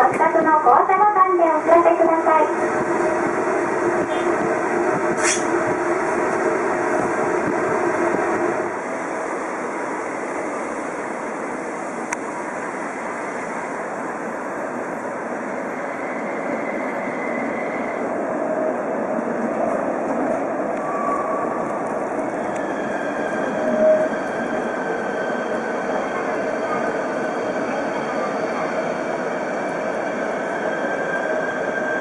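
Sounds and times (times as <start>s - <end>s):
tram rolling past: 0.0s - 32.0s
tram running noise with hum: 0.0s - 32.0s.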